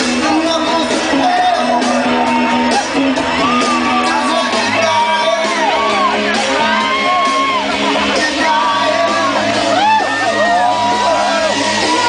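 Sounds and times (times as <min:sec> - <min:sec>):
crowd shouting and whooping: 0:00.0 - 0:12.0
loud club dance music: 0:00.0 - 0:12.0.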